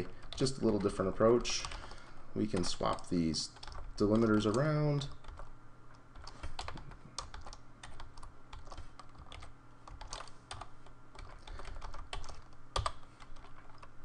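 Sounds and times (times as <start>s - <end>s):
typing on computer keyboard: 0.0s - 5.5s, 6.2s - 13.9s.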